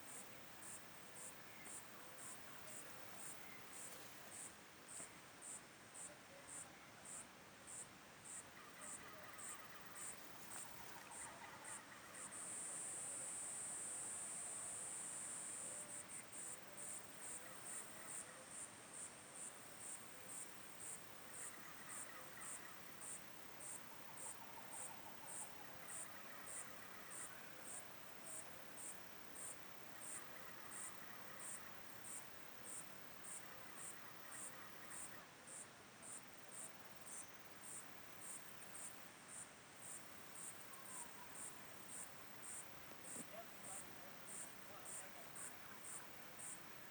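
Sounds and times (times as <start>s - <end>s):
faint background insect calls: 0.0s - 46.9s.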